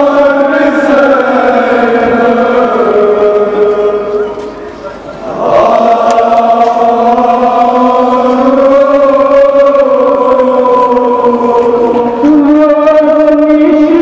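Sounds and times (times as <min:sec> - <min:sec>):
voices singing a mourning chant: 0:00.0 - 0:14.0.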